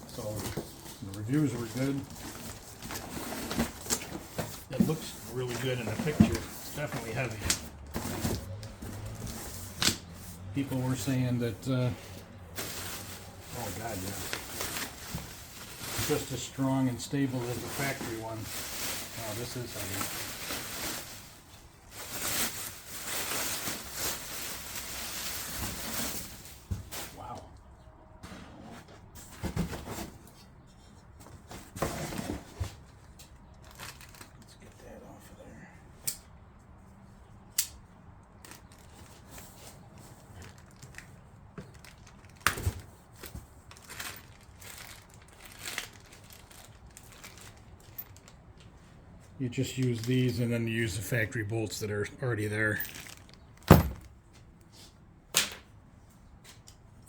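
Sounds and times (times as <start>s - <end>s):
packaging rustling and scraping: 0.0s - 27.2s, 28.3s - 34.4s, 38.5s - 48.5s, 49.5s - 54.2s.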